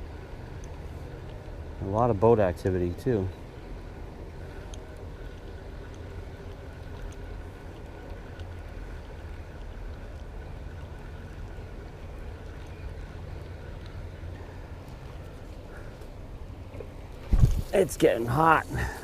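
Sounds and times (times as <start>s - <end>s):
boat engine rumble: 0.0s - 19.0s
faint steady whine: 0.0s - 19.0s.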